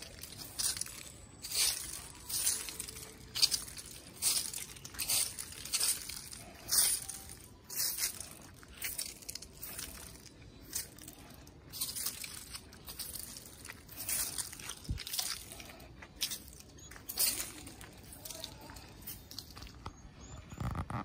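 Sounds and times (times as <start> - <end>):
footsteps on wet leaves: 0.0 - 19.9.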